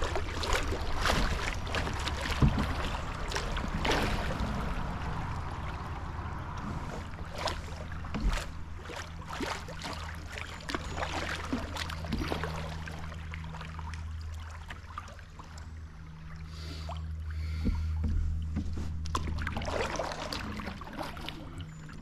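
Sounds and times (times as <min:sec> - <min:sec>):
steady low hum: 0:00.0 - 0:22.0
water splashing and dripping: 0:00.0 - 0:22.0.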